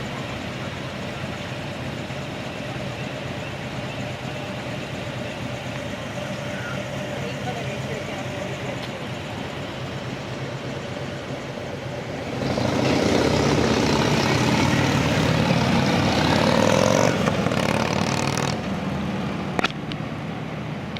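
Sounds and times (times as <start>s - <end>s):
vehicle engine passing: 3.8s - 20.9s.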